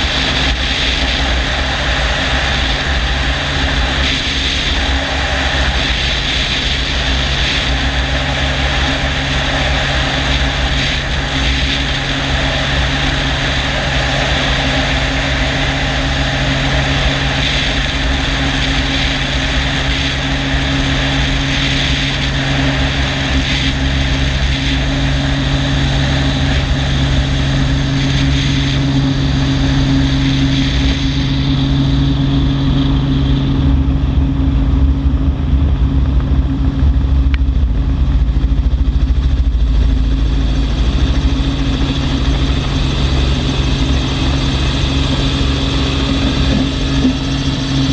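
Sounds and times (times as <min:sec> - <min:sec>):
helicopter blades beating: 0:00.0 - 0:47.9
helicopter engine and rotor hum: 0:00.0 - 0:47.9.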